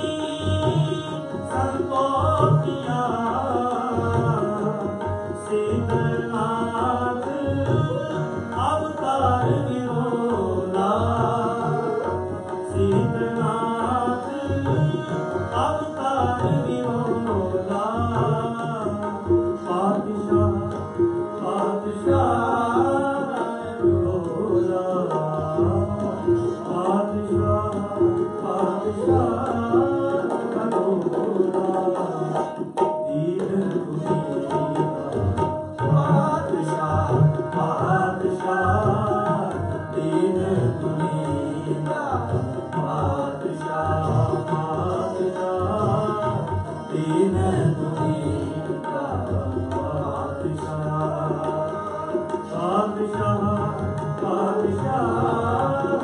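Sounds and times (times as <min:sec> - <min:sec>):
bowed string instrument: 0:00.0 - 0:56.0
harmonium: 0:00.0 - 0:56.0
man singing: 0:00.0 - 0:56.0
tabla rhythm: 0:00.0 - 0:56.0.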